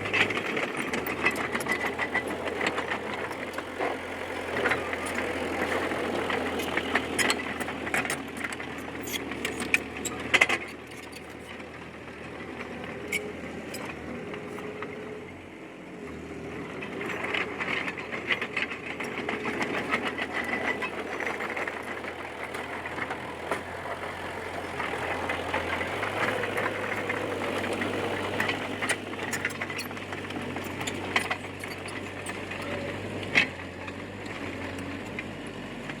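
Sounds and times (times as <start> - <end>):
tracks rattling and clanking: 0.0 - 15.2, 16.6 - 36.0
bulldozer diesel engine running: 0.0 - 36.0.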